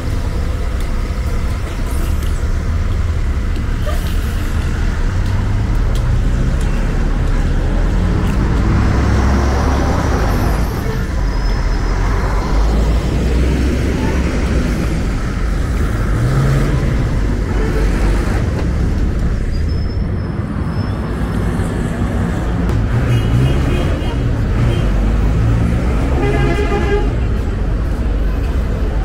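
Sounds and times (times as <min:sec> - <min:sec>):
cars and buses passing: 0:00.0 - 0:29.0.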